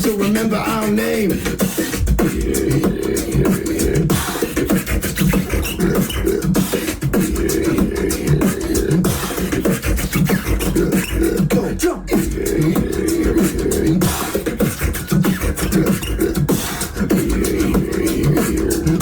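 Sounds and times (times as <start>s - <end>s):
beatboxing: 0.0s - 19.0s.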